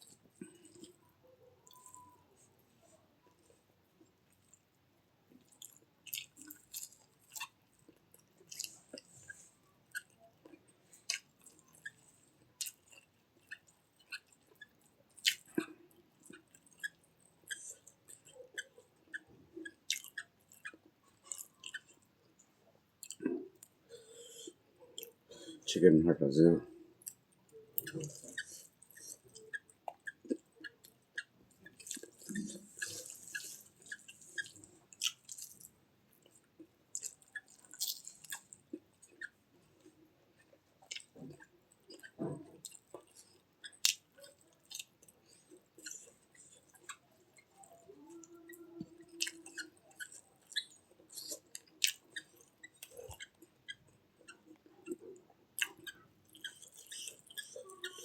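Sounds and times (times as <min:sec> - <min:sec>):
person chewing with wet smacking: 0:00.0 - 0:25.8, 0:26.9 - 0:58.0
lips and teeth clicking: 0:05.3 - 0:22.1, 0:23.0 - 0:25.2, 0:27.0 - 0:58.0.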